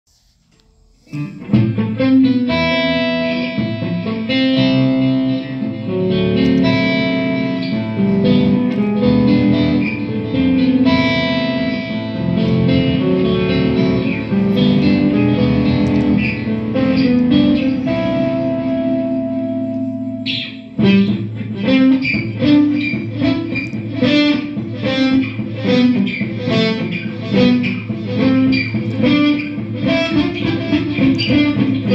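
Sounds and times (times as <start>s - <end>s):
overdriven electric guitar: 1.0s - 31.9s.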